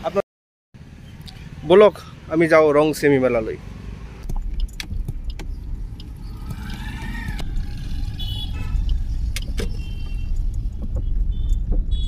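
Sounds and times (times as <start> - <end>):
vehicle rumbling on road: 0.8 - 12.0.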